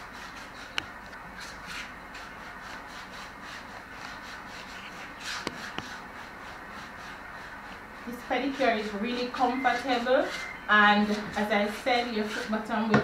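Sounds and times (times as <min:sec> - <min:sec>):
foot file rubbing on skin: 0:00.0 - 0:13.0.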